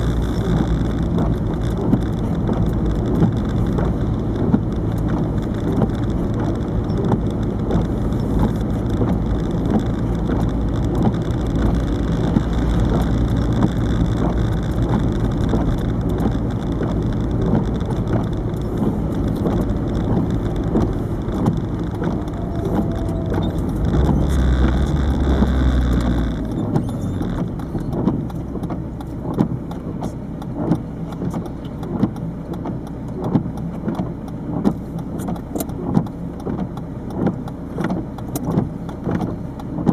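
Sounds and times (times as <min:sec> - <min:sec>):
diesel engine drone: 0:00.0 - 0:39.9
road noise: 0:00.0 - 0:39.9.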